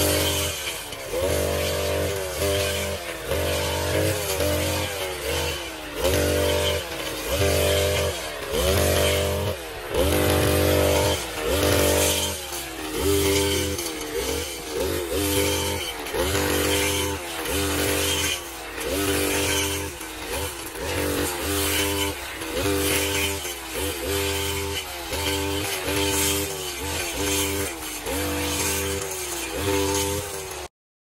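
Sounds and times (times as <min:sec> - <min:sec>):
brush cutter engine revving: 0:00.0 - 0:30.7.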